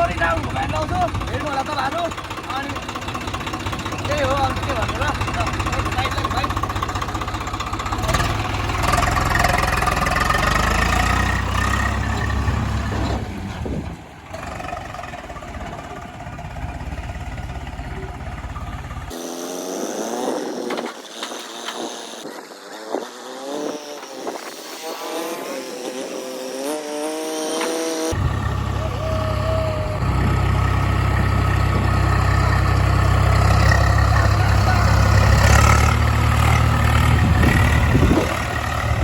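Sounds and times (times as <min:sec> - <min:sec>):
tractor engine rumbling: 0:00.0 - 0:26.6, 0:27.5 - 0:39.0.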